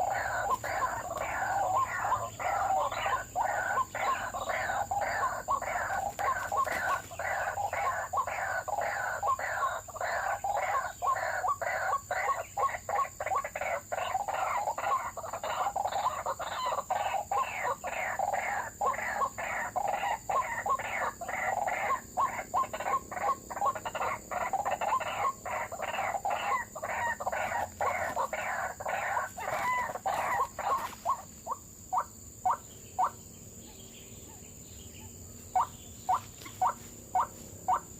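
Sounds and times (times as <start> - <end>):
waterhen harsh repeated calls: 0.0 - 33.1.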